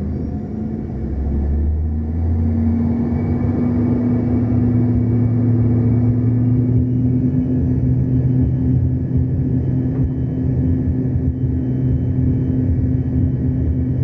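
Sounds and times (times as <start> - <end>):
airliner engines rumbling: 0.0 - 14.0.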